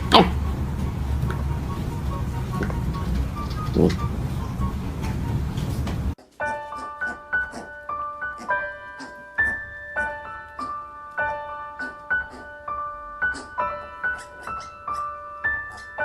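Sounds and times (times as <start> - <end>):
piano melody: 0.0 - 16.0.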